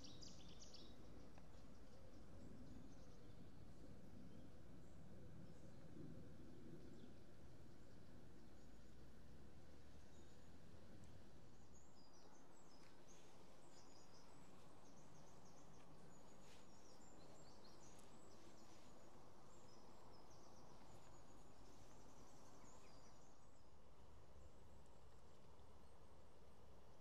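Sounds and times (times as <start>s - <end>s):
faint songbirds chirping: 0.0s - 27.0s
low outdoor background noise: 0.0s - 27.0s.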